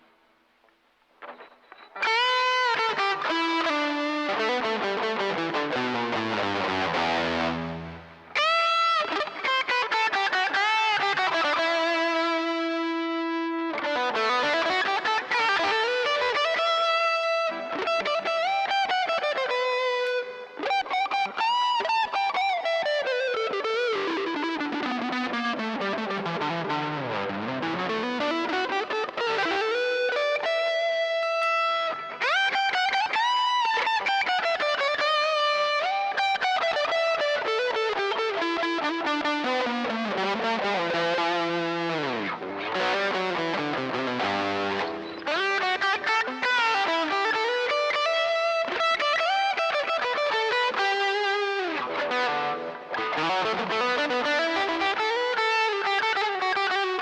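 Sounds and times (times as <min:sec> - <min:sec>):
overdriven electric guitar melody: 0:00.0 - 0:57.0.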